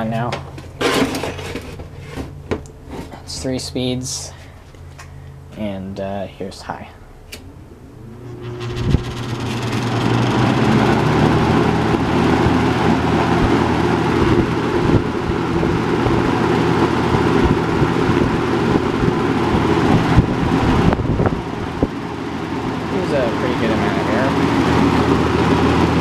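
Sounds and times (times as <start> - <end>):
box fan running: 0.0 - 26.0.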